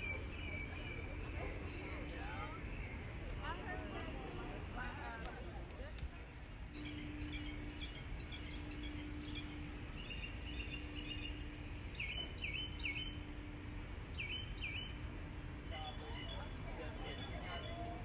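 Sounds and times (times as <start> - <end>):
faint low hum: 0.0 - 18.0
low outdoor rumble: 0.0 - 18.0
songbirds chirping: 0.0 - 18.0.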